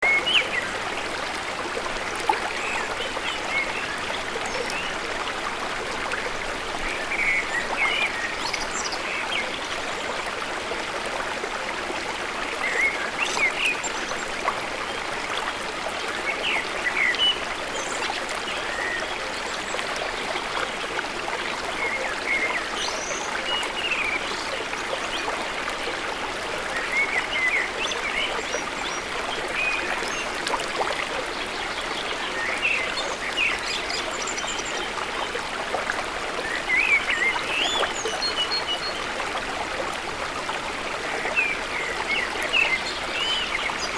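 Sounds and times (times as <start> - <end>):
stream flowing: 0.0 - 43.9.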